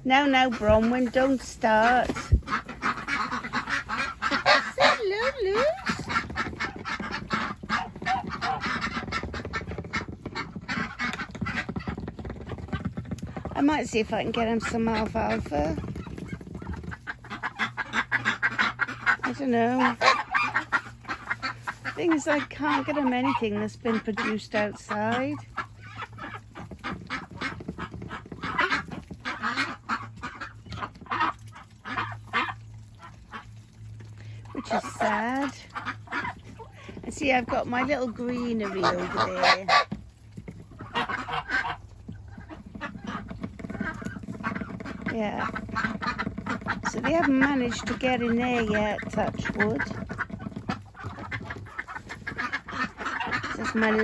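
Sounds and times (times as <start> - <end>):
ducks quacking: 0.0 - 54.0
geese honking: 0.1 - 12.0, 13.6 - 54.0.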